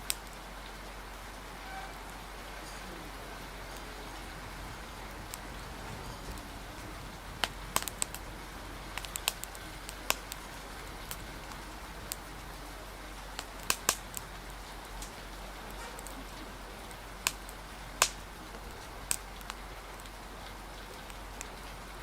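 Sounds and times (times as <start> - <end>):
rain hiss: 0.0 - 22.0
wind: 0.0 - 22.0
wood fire crackling: 0.0 - 22.0.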